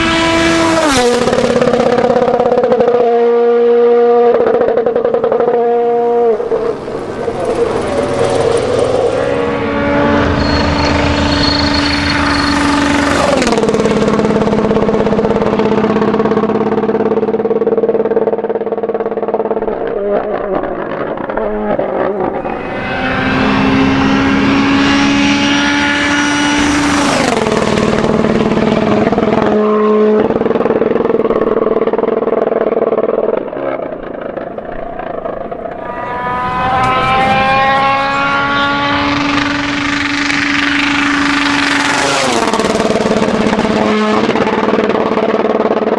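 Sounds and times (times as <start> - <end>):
rally cars passing at full throttle: 0.0 - 45.9.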